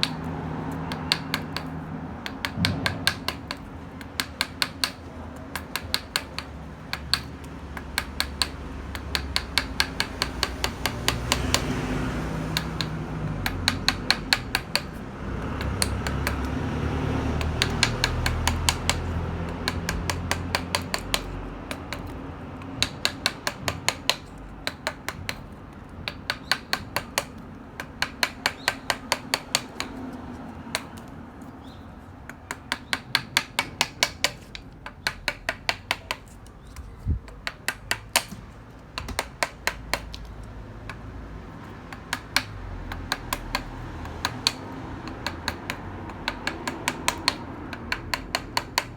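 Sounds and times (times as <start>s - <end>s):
mallet tapping chisel into wood: 0.0s - 0.3s, 0.9s - 11.8s, 12.5s - 16.6s, 17.4s - 30.1s, 30.7s - 31.1s, 32.3s - 36.7s, 37.3s - 38.4s, 39.0s - 41.0s, 41.9s - 48.9s.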